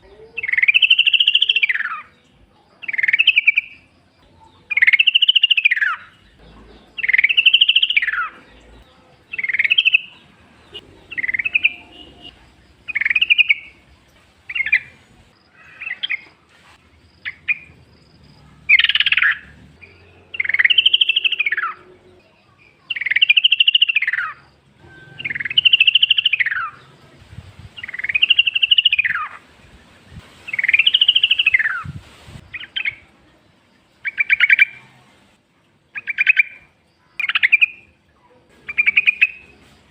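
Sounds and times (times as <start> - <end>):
bulbul singing trilled phrases: 0.0 - 16.2, 17.1 - 29.4, 30.5 - 33.1, 35.9 - 39.6.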